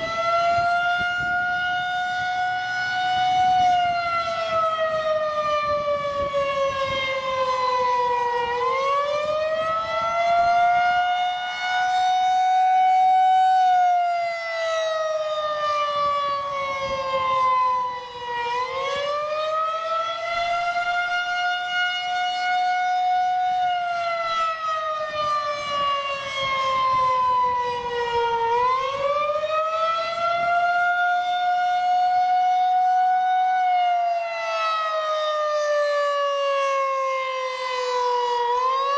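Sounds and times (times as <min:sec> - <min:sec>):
rotating warning siren wail: 0:00.0 - 0:38.9.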